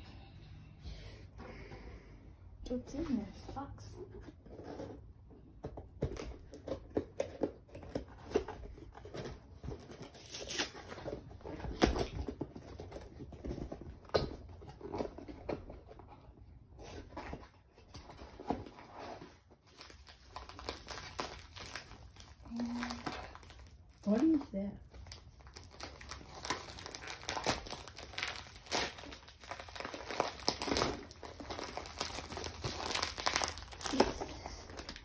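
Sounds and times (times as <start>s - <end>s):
cardboard packaging tearing and rustling: 6.0s - 16.1s, 16.8s - 35.0s.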